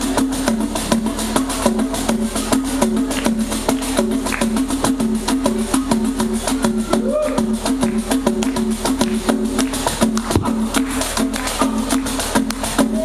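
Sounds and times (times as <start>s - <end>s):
fast percussive strokes: 0.0s - 13.0s.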